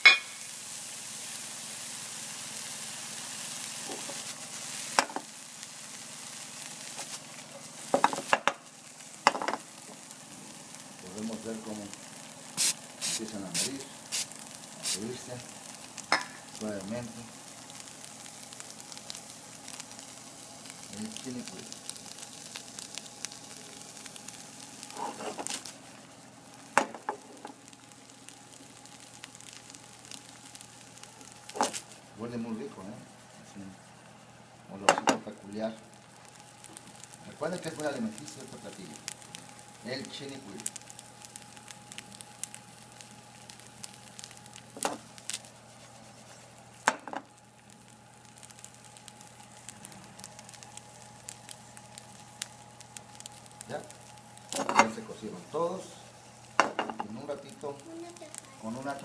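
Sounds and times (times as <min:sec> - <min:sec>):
crackles and pops: 0:00.0 - 0:59.0
food sizzling in hot oil: 0:00.0 - 0:59.0.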